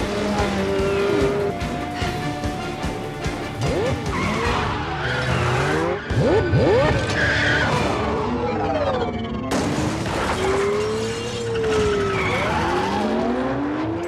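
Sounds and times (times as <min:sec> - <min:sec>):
film score music: 0:00.0 - 0:12.0
car engines revving: 0:00.0 - 0:14.0.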